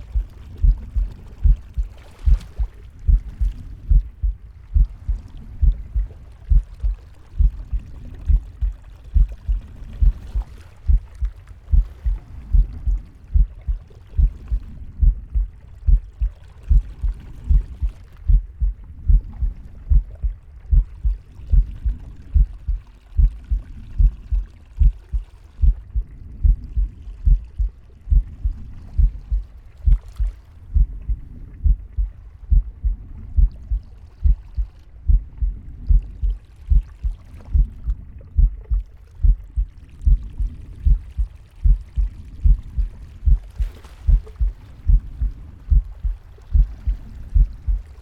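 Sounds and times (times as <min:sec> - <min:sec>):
heartbeat thumps: 0:00.0 - 0:48.0.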